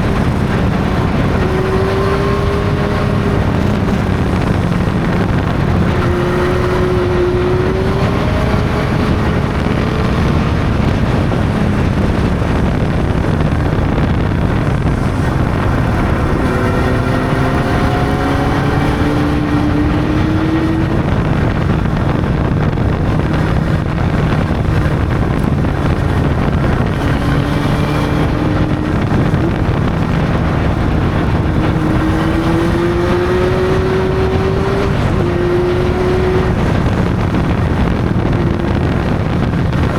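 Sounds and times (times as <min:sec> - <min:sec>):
motorcycle engine accelerating: 0:00.0 - 0:39.9
wind on microphone: 0:00.0 - 0:39.9.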